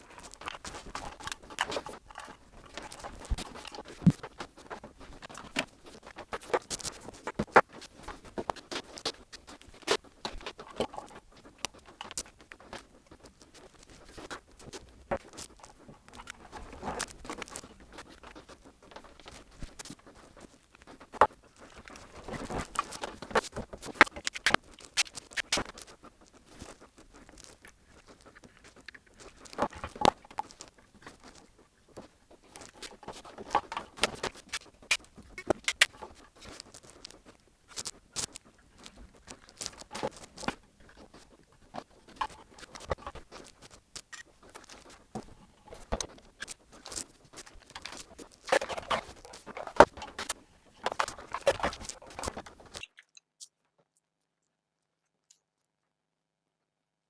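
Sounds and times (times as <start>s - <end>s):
soft rustling: 0.0s - 52.8s.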